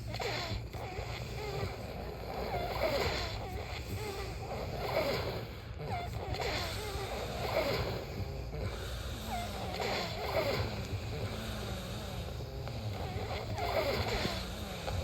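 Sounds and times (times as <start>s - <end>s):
person snoring: 0.0s - 15.0s
steady low hum: 0.0s - 15.0s.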